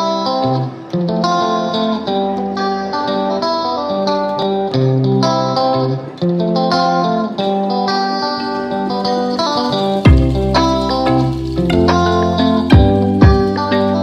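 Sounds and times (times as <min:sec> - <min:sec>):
plucked melody over chords: 0:00.0 - 0:14.0.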